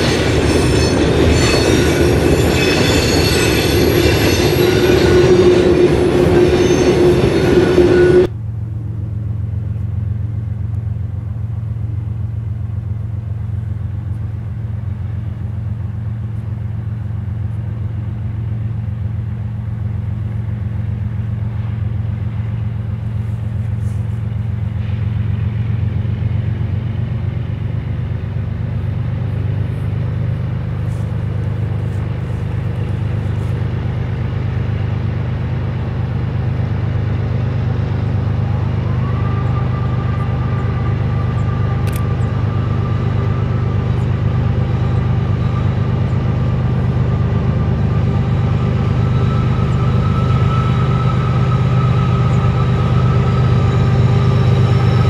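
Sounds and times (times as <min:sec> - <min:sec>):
diesel locomotive engine rumble: 0:00.0 - 0:55.0
rising whine: 0:00.0 - 0:55.0.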